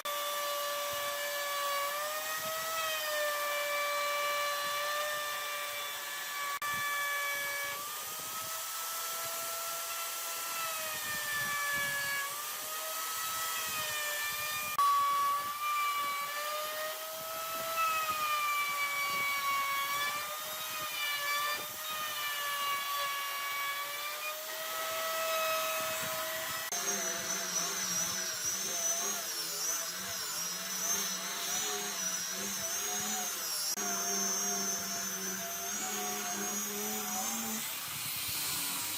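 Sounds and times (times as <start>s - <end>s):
power tool whining into wood: 0.0s - 38.9s.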